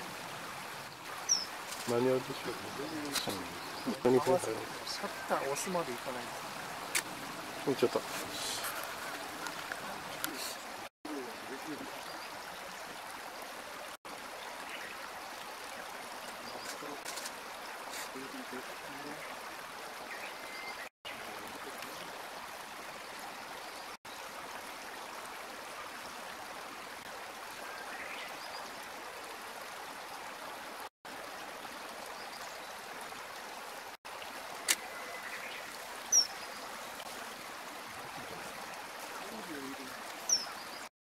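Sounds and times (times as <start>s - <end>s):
running stream water: 0.0s - 40.9s.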